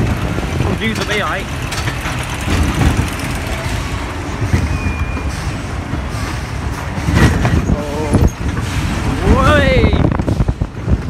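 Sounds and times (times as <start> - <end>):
roller coaster knocks: 0.0 - 11.0
roller coaster rumbling on track: 0.0 - 11.0.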